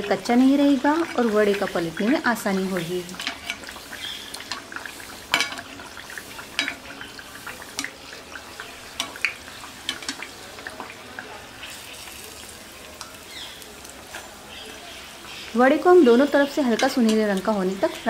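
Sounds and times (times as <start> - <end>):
batter sizzling in hot oil: 0.0 - 18.0
oil popping: 0.0 - 18.0.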